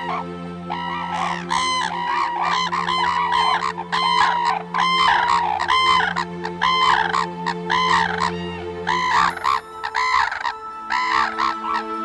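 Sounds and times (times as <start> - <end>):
cranes trumpeting calls: 0.0 - 12.0.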